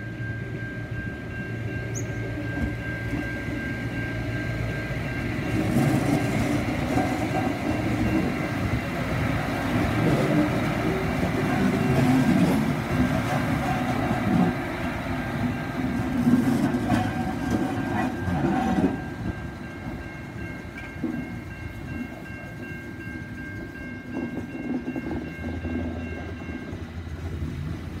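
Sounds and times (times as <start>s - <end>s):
level crossing bells ringing: 0.0s - 14.6s, 15.3s - 26.8s
train rumbling over rails: 0.0s - 28.0s.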